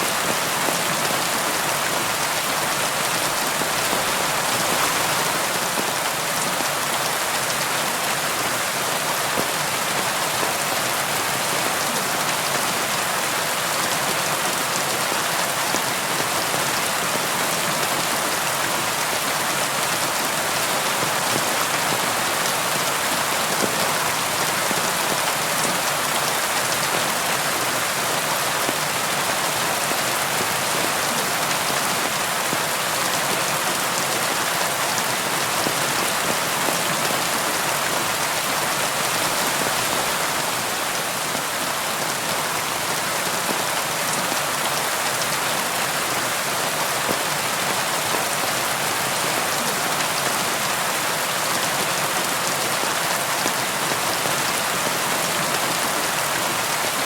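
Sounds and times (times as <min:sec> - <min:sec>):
rain pattering: 0:00.1 - 0:57.0.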